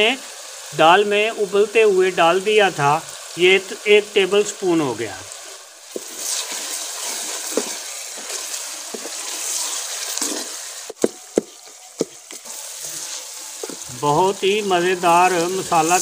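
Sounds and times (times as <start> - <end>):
masala sizzling in a pot: 0.0 - 16.0.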